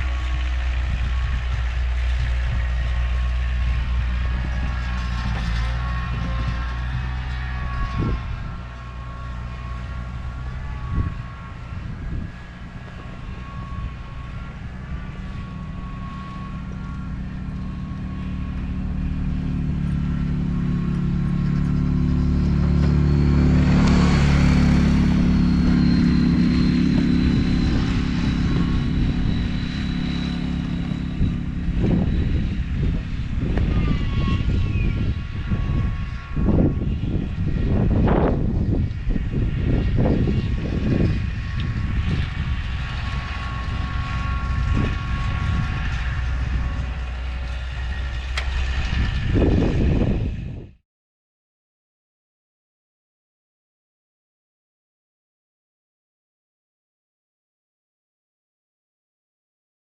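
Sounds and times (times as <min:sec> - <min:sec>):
vehicle engine under varying load: 0:00.0 - 0:50.8.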